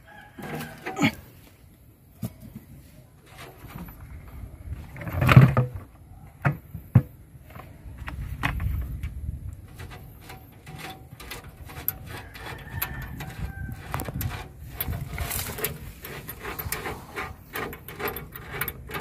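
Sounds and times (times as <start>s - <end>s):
light taps and scrapes: 2.2s - 19.0s.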